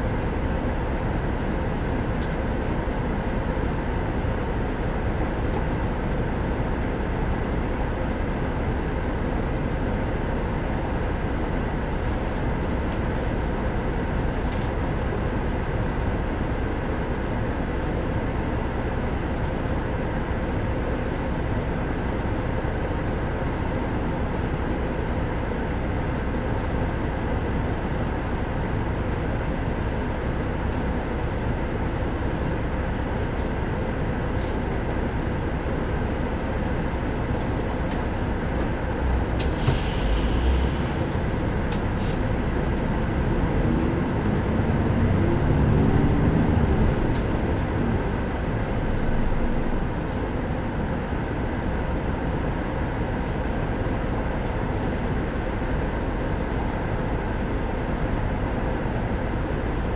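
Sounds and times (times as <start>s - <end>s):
bus engine idling: 0.0s - 59.9s.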